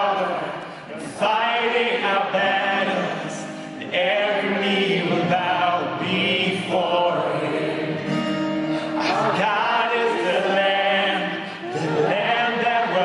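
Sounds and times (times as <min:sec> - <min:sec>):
crowd singing worship song: 0:00.0 - 0:13.0.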